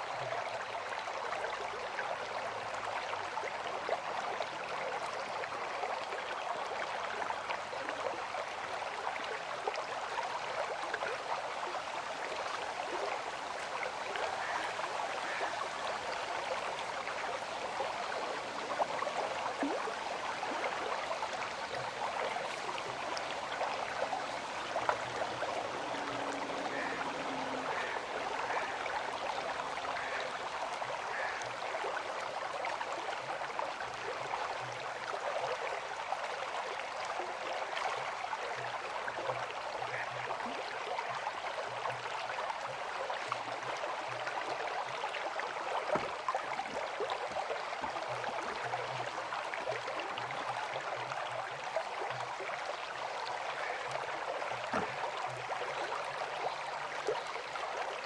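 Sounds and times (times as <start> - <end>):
small water splashes: 0.0 - 58.0
river water rushing: 7.9 - 58.0.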